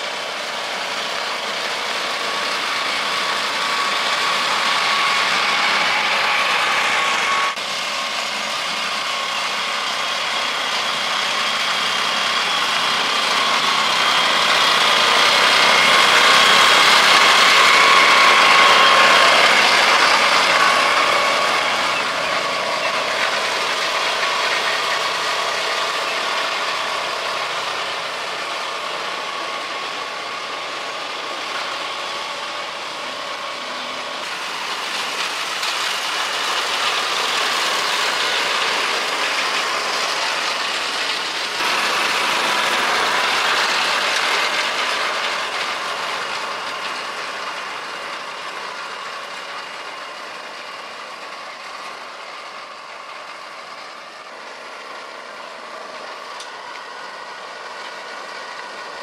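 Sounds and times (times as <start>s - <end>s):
engine running with rattle: 0.0s - 59.0s.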